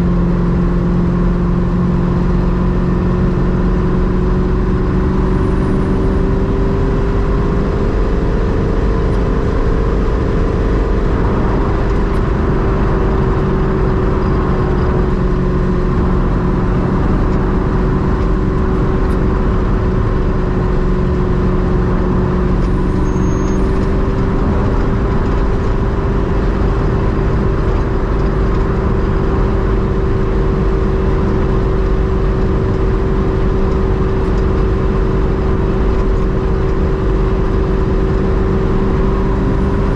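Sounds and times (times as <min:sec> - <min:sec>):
car engine cruising: 0:00.0 - 0:39.9
road and tyre noise: 0:00.0 - 0:39.9.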